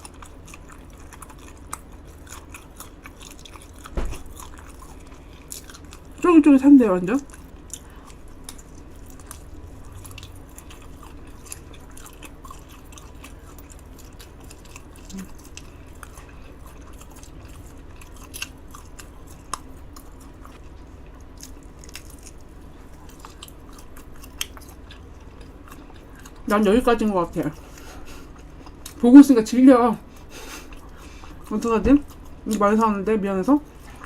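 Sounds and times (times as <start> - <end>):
person chewing food: 0.0 - 6.2, 7.2 - 26.5, 27.5 - 29.0, 30.0 - 32.8.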